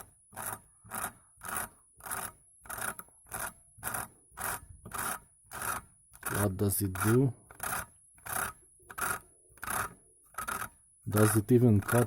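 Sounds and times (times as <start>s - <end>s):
cutting tool rasping on glass: 0.0s - 12.0s.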